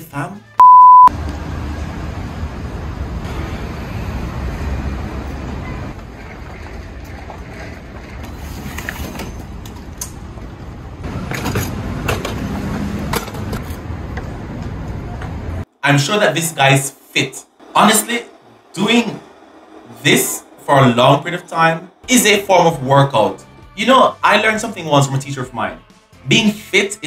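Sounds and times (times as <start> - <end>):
traffic rumble: 1.1 - 25.2.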